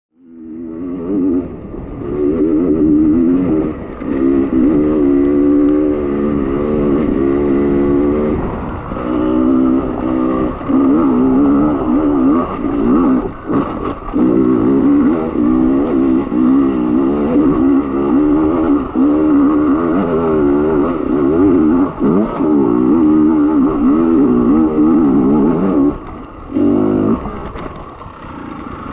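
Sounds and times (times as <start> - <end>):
motorcycle engine revving: 0.1 - 28.9.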